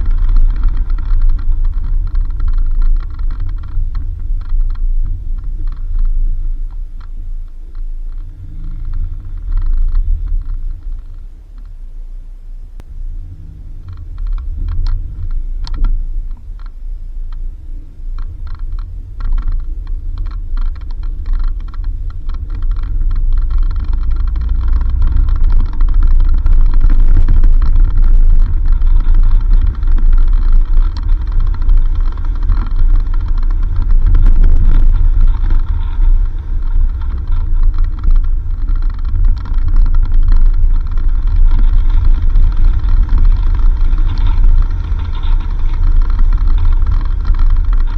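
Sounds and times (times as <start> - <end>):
ticks and rattles: 0.0 - 12.0, 12.8 - 47.9
vehicle engine and tyres rumbling: 0.0 - 47.9.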